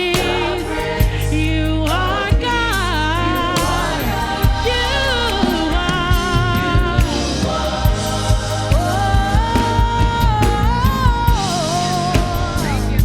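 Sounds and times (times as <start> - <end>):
band with drums and bass: 0.0 - 13.0.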